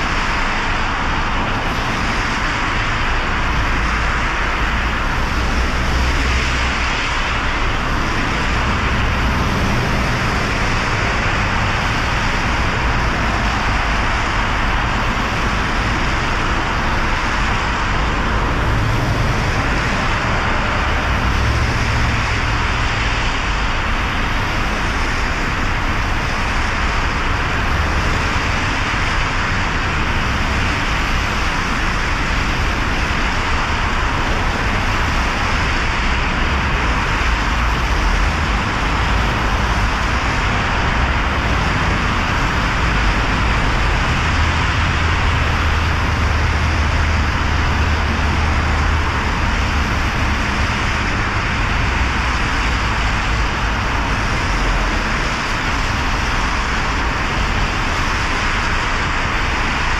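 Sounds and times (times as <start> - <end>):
car engine rumble: 0.0 - 59.9
tyres hissing on wet road: 0.0 - 59.9.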